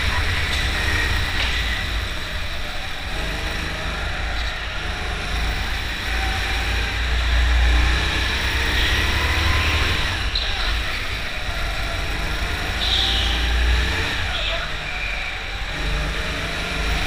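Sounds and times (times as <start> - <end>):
go-kart running: 0.0 - 17.0.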